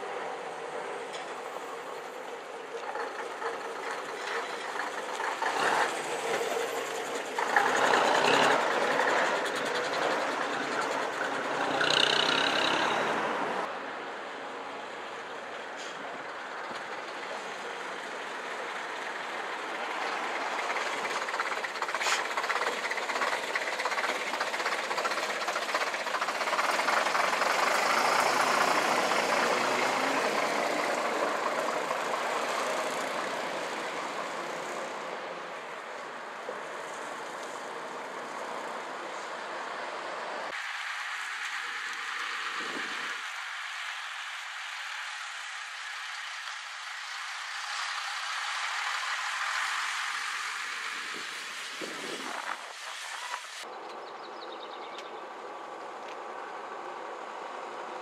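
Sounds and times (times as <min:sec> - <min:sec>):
diesel buses driving past: 0:00.0 - 0:58.0.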